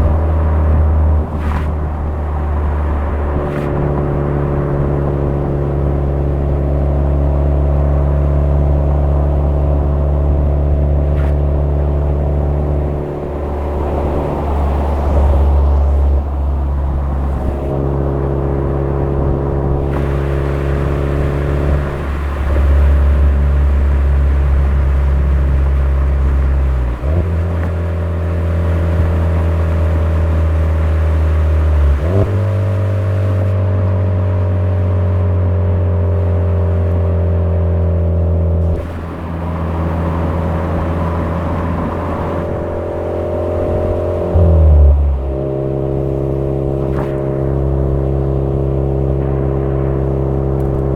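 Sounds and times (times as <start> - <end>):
car engine running at speed: 0.0 - 50.9.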